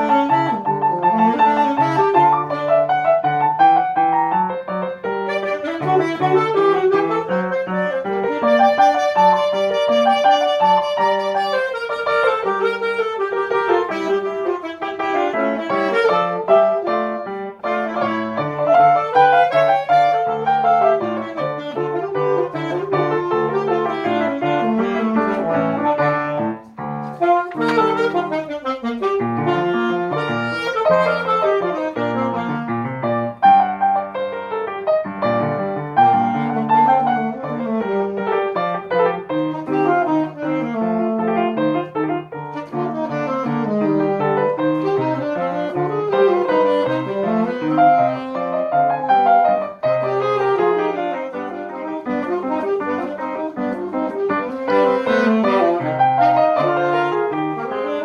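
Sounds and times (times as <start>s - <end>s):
grand piano four hands: 0.0s - 58.0s.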